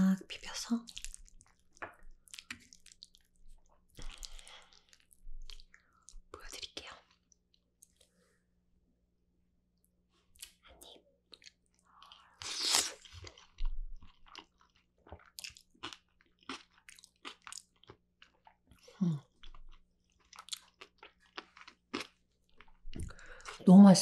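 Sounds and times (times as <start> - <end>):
chewing with wet clicks and crunches: 0.8 - 8.1, 10.3 - 23.7.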